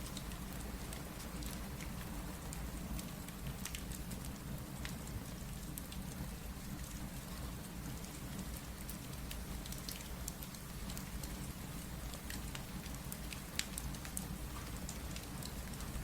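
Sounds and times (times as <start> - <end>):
steady rain: 0.0 - 16.0
wood fire crackles: 0.0 - 16.0.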